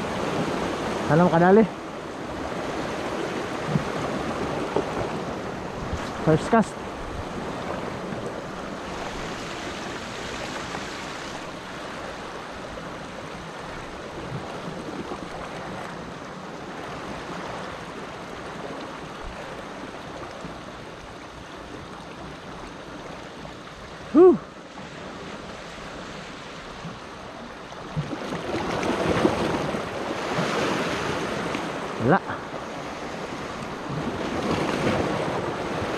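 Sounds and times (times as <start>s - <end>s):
waves washing against rocks: 0.0s - 20.3s, 24.8s - 35.9s.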